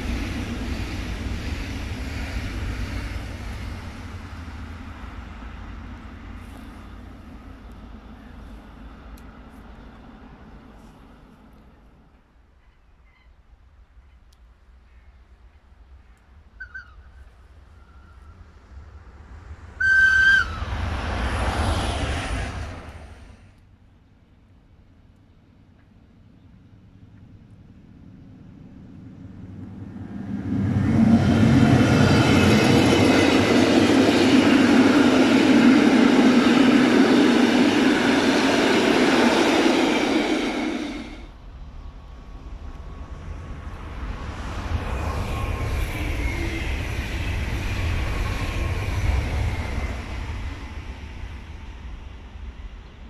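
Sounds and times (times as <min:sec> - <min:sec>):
electric train passing at speed: 0:00.0 - 0:53.0.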